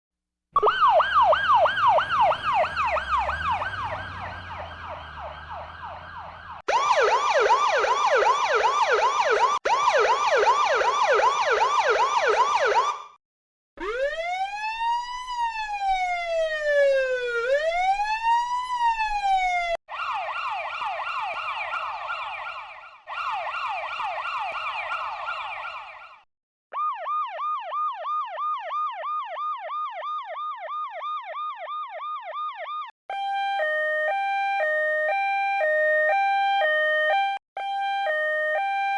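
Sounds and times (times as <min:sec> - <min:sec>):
siren slow wail: 0:00.6 - 0:13.2, 0:13.8 - 0:38.9
siren yelp sweeps: 0:00.6 - 0:13.2, 0:13.8 - 0:38.9.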